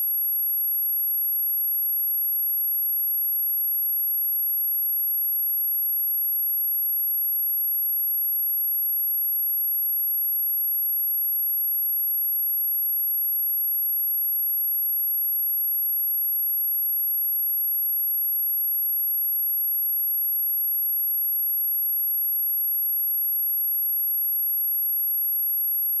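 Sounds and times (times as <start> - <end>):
high-pitched sine-wave test tone: 0.0 - 26.0.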